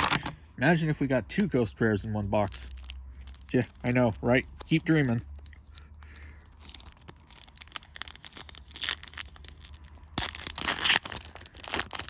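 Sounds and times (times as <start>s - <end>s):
foil wrapper crinkling and tearing: 0.0s - 0.4s, 2.4s - 12.0s.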